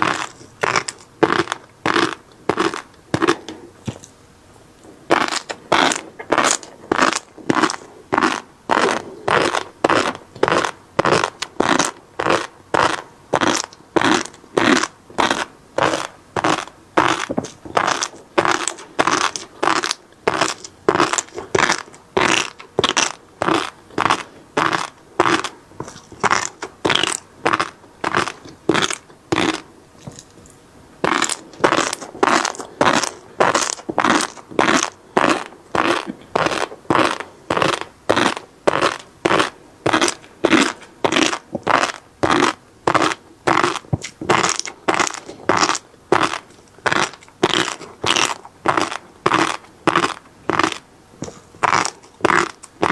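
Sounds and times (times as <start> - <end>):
fish roe popping while chewing: 0.0 - 4.2, 5.1 - 52.9.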